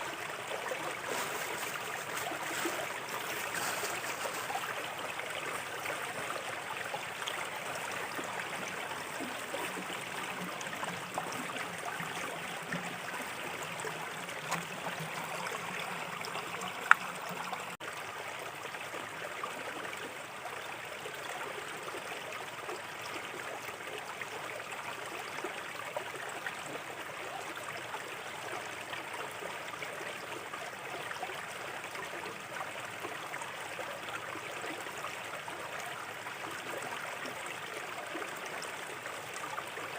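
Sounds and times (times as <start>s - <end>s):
small river trickling: 0.0s - 39.9s.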